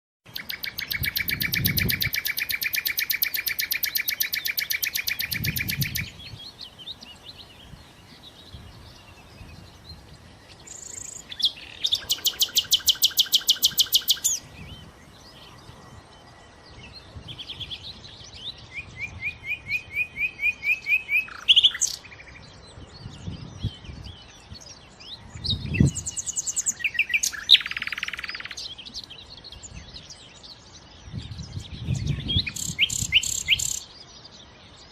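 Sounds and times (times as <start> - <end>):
nightingale singing: 0.3 - 34.9.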